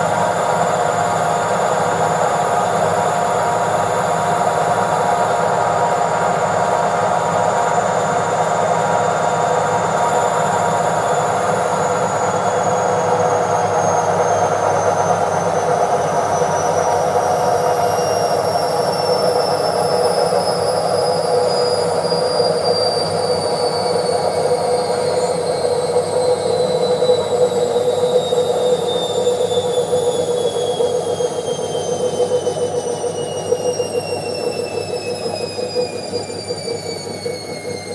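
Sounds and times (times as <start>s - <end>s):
washing machine spinning: 0.0s - 37.9s.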